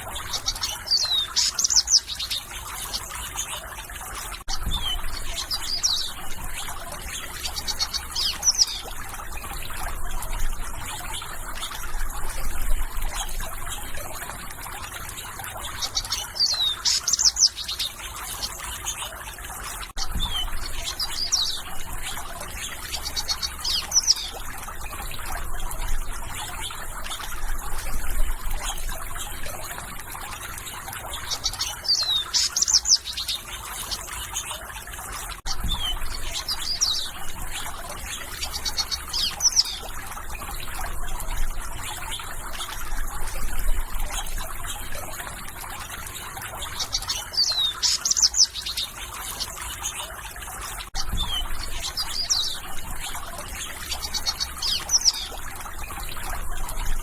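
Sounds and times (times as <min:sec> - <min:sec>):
small birds chirping: 0:00.0 - 0:57.0
water trickling: 0:00.0 - 0:57.0.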